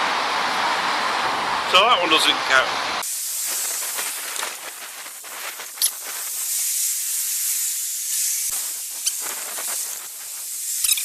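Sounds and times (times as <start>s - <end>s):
high steady hiss: 0.0s - 11.0s.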